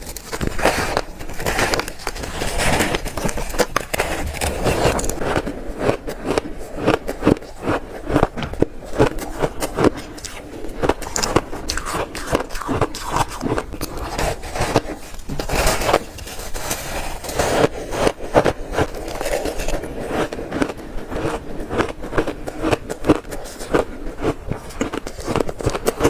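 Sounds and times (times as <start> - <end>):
teeth crunching shaved ice: 0.0 - 26.0.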